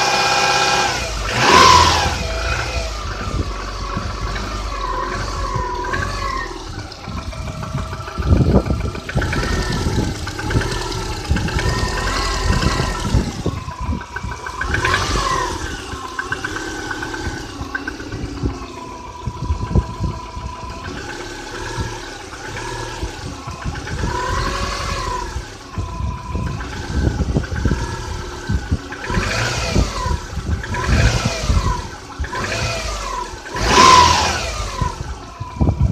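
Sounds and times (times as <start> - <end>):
car engine revving: 0.0 - 35.9
engine knocking: 0.0 - 35.9.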